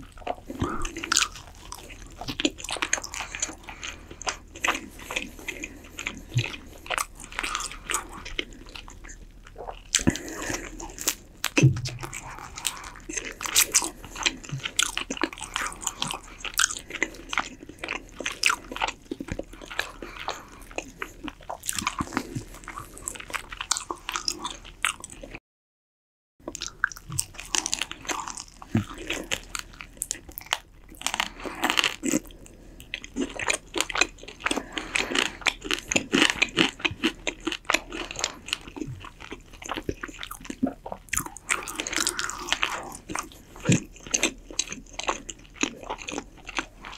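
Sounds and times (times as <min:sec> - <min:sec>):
chewing chicken with crunchy clicks: 0:00.0 - 0:25.4, 0:26.4 - 0:46.9.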